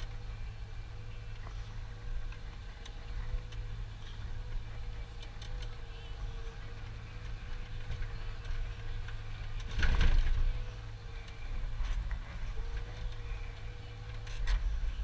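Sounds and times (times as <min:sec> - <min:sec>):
crane rush of noise: 0:00.0 - 0:15.0
engine humming inside cab: 0:00.0 - 0:15.0
faint steady whine: 0:00.0 - 0:15.0.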